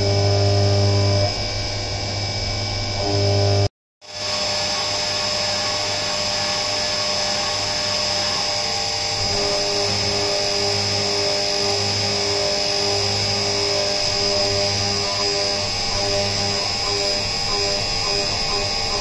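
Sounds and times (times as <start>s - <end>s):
milling machine cutting metal: 0.0s - 1.5s, 3.0s - 19.0s
low hum: 0.0s - 19.0s.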